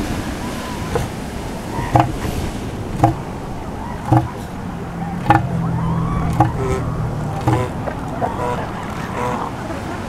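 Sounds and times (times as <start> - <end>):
surf washing: 0.0 - 10.0
elephant seal threat call: 0.5 - 2.4, 3.0 - 9.8.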